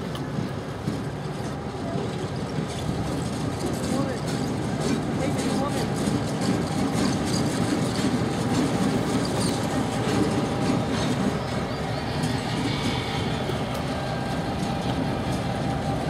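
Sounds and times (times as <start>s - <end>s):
diesel locomotive rumble: 0.0s - 16.0s
wheels clicking over rail joints: 0.0s - 16.0s.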